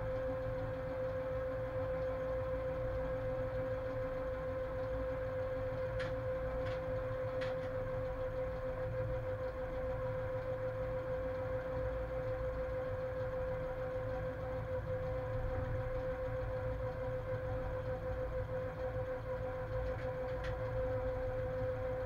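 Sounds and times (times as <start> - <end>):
locomotive steady hum: 0.0 - 22.0.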